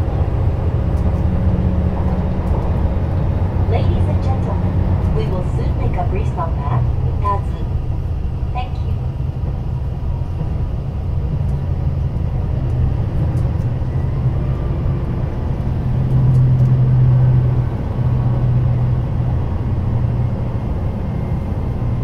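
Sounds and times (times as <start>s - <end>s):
train engine and rail drone: 0.0s - 22.0s.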